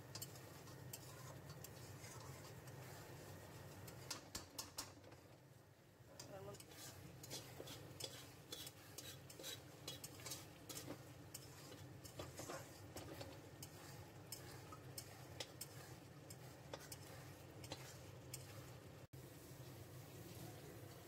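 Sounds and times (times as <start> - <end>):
metal spatula scraping metal pan: 0.0 - 4.8, 6.2 - 19.0.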